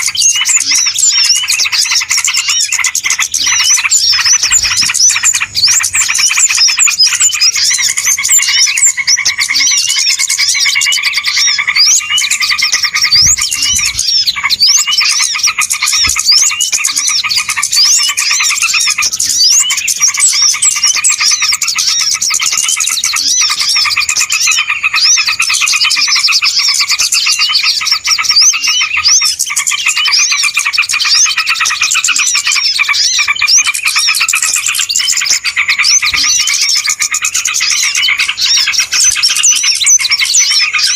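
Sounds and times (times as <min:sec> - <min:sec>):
chorus of small birds chirping: 0:00.0 - 0:40.9.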